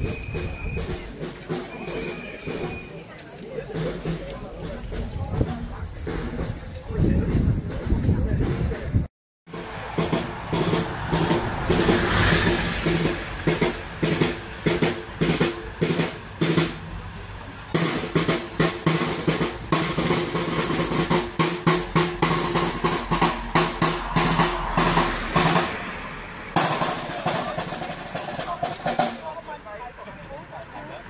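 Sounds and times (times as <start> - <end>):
marching drum beat: 0.0 - 29.6.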